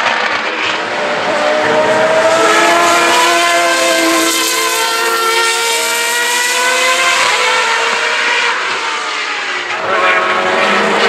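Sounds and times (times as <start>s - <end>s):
race car engines at high revs: 0.0s - 11.0s.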